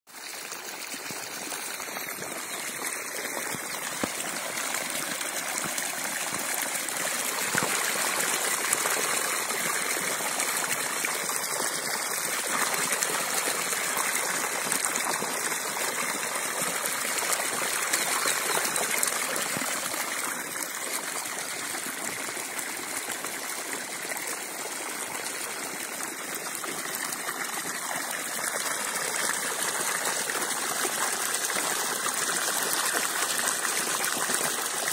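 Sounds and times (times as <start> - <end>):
water gushing from a pipe: 0.1 - 34.9.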